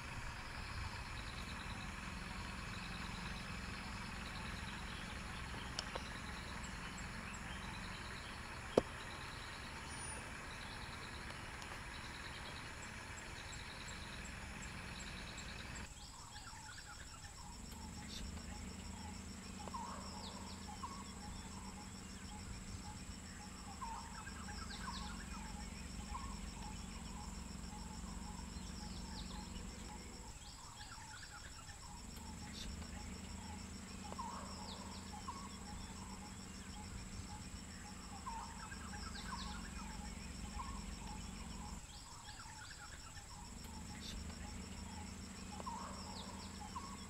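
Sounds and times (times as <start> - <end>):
birds chirping: 0.0 - 47.0
low steady hum: 0.0 - 47.0.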